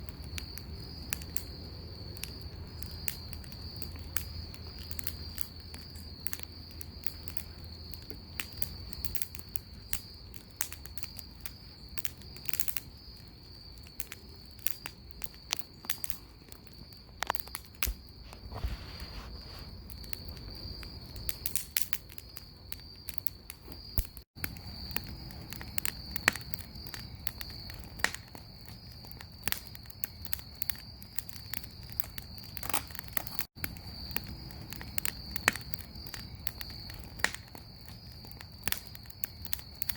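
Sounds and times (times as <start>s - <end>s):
bonfire crackling and popping: 0.0s - 39.9s
crickets trilling: 0.0s - 39.9s.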